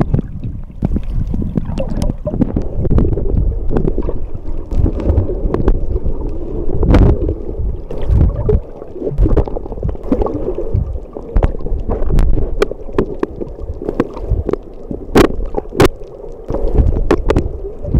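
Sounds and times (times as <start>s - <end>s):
underwater rumble and sloshing: 0.0s - 17.9s.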